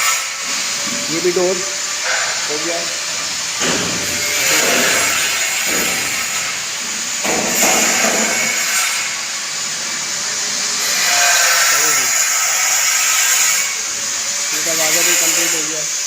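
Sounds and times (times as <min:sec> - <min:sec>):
saw cutting wood: 0:00.0 - 0:16.0.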